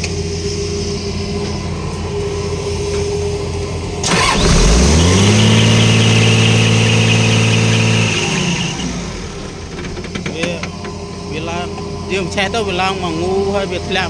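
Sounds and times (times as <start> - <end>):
engine idling and revving: 0.0 - 14.0.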